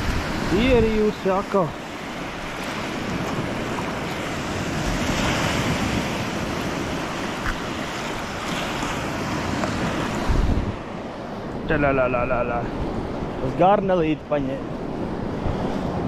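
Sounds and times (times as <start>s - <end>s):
surf washing up shore: 0.0s - 16.0s
wind rumbling on microphone: 0.0s - 16.0s.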